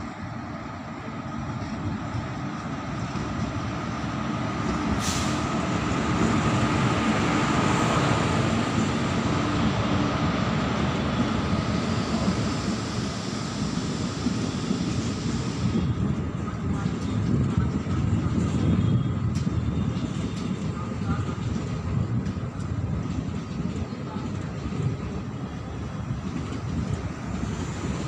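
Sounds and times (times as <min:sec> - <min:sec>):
train rumbling past: 0:00.0 - 0:28.0.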